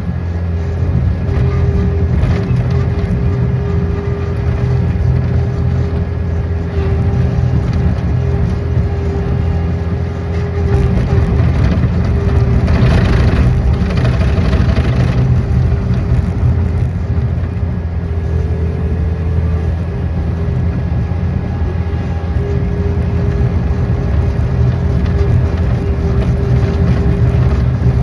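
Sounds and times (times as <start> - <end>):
construction machine engine running: 0.0 - 28.0.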